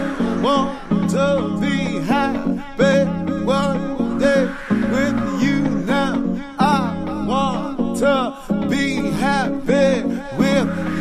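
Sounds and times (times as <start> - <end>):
pop love song: 0.0 - 11.0.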